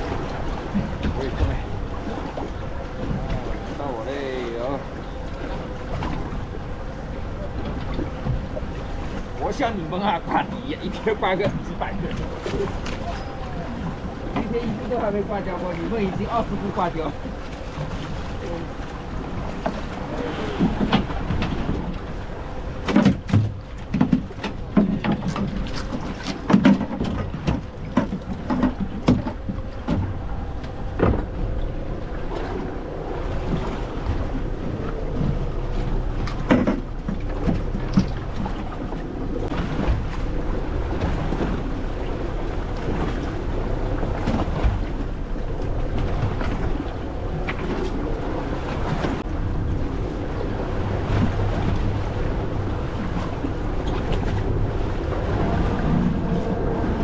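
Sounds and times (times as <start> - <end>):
knocks and thumps on boat: 0.0 - 57.0
sea water around boat: 0.0 - 57.0
wind: 0.0 - 57.0.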